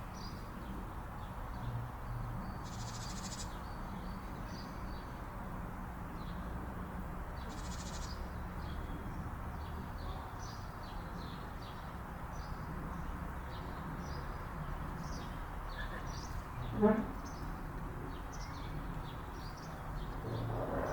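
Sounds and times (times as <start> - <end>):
small birds chirping: 0.1 - 5.2, 7.4 - 20.9.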